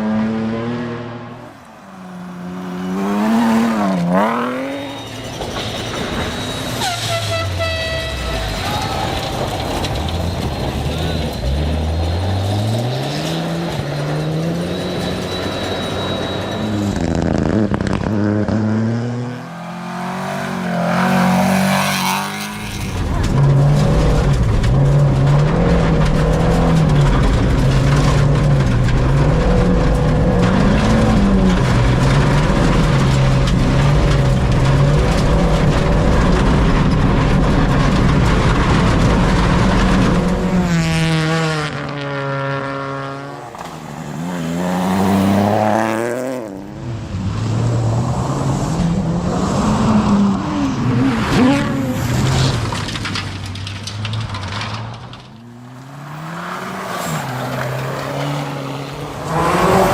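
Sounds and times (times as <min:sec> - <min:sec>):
rally car engine revving: 0:00.0 - 0:07.0, 0:08.0 - 0:59.9.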